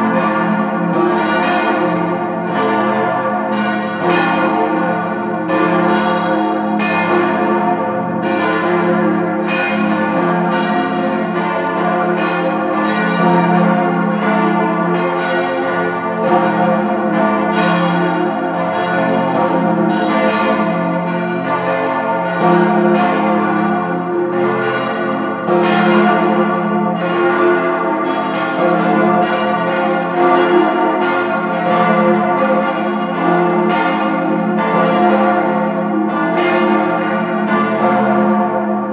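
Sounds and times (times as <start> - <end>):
large church bells ringing: 0.0 - 38.9.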